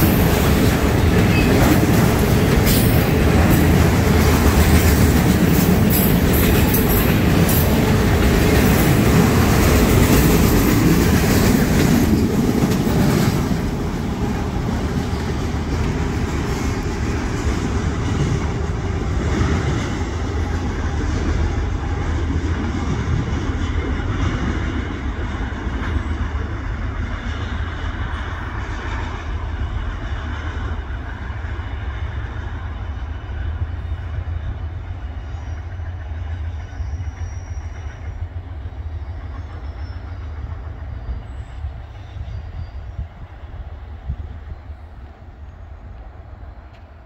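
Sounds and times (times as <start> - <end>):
freight train wheels rumbling: 0.0 - 47.0.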